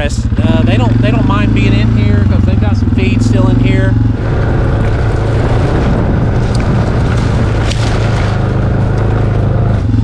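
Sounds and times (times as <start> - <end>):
utility vehicle engine running: 0.0 - 10.0
rattling: 1.6 - 10.0.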